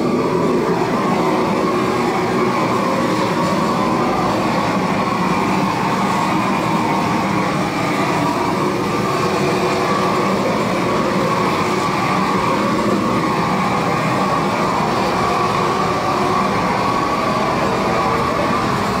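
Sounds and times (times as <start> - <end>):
propane torch flame running: 0.0 - 19.0.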